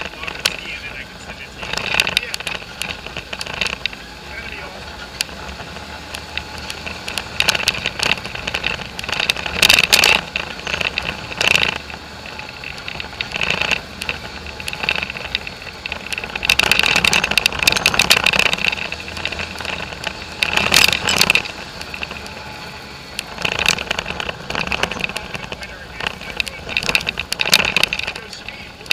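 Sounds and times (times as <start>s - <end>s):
body and windshield rattling: 0.0s - 28.9s
off-road vehicle engine: 0.0s - 28.9s.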